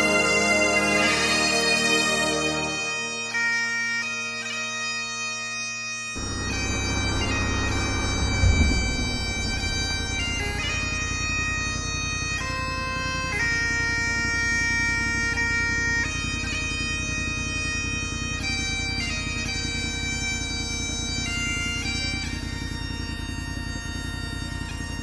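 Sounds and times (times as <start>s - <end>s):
bagpipes playing slow tune: 0.0s - 25.0s.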